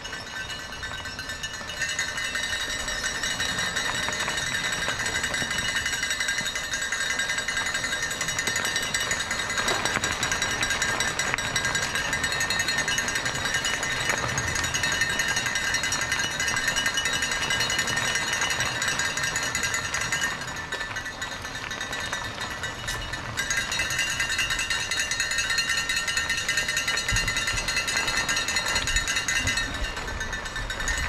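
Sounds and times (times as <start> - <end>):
mountain bike rattling: 0.0 - 31.0.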